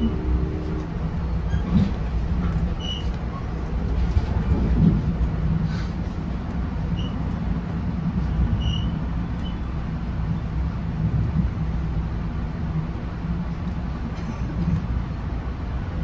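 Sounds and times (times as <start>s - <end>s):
train coach rumbling on track: 0.0s - 16.0s.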